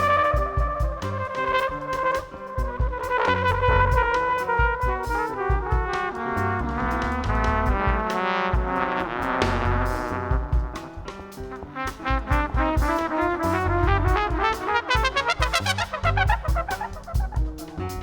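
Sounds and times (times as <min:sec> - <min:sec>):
double bass: 0:00.0 - 0:18.0
drum kit with cymbals: 0:00.0 - 0:18.0
piano: 0:00.0 - 0:18.0
trumpet melody: 0:00.0 - 0:18.0.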